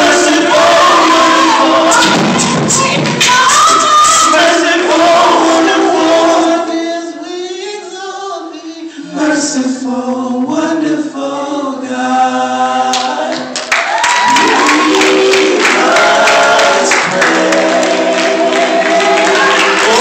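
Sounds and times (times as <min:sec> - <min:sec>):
male vocal quartet singing: 0:00.0 - 0:13.5, 0:14.3 - 0:20.0.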